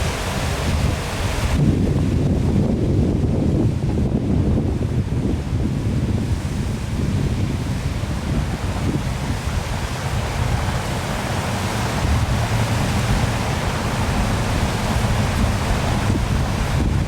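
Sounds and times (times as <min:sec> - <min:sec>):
waterfall rushing: 0:00.0 - 0:04.0, 0:04.7 - 0:17.0.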